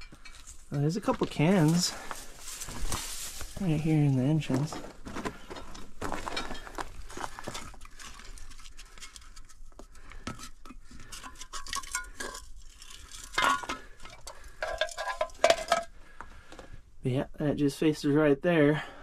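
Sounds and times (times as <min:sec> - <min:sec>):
tin cans clinking on rock rubble: 0:00.0 - 0:16.7.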